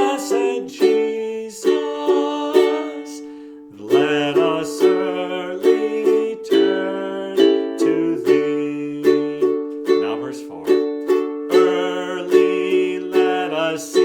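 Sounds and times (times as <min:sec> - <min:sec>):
man singing a hymn: 0:00.0 - 0:10.8, 0:11.5 - 0:14.0
ukulele strumming: 0:00.0 - 0:14.0.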